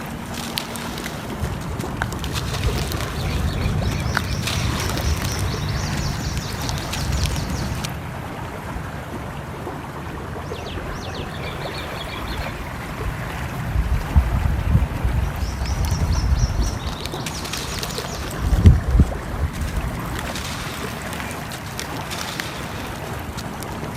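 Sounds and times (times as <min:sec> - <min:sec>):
birds chirping: 0:00.0 - 0:13.5, 0:15.0 - 0:23.9.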